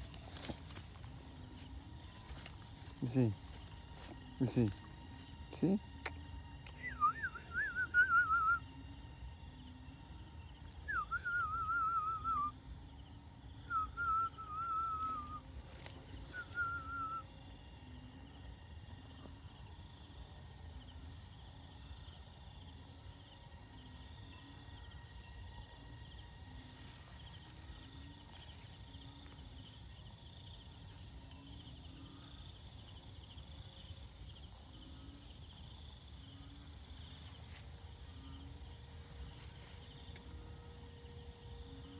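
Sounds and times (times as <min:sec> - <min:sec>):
insect chorus trilling: 0:00.0 - 0:41.9.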